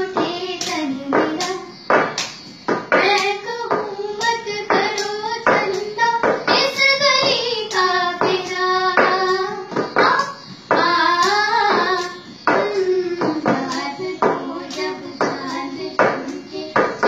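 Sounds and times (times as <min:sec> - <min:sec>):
person singing: 0:00.0 - 0:01.7, 0:03.0 - 0:17.0
hand claps: 0:00.0 - 0:17.0.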